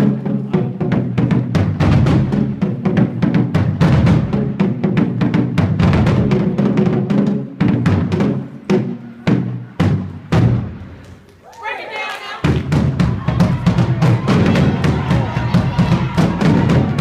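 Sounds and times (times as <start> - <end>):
pitched bass drums: 0.0 - 10.9, 12.4 - 17.0.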